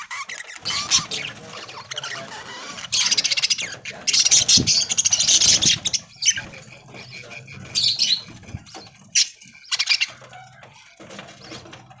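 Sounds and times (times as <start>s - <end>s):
budgerigars chirping and chattering: 0.0s - 11.8s
wings flapping: 0.0s - 12.0s.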